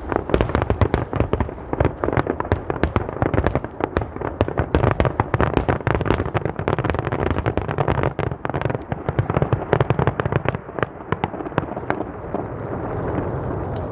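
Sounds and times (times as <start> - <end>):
fireworks bangs and crackles: 0.0 - 13.9.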